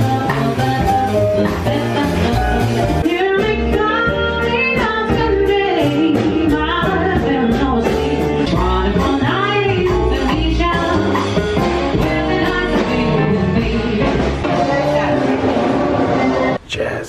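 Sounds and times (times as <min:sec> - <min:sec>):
jazz piano: 0:00.0 - 0:16.6.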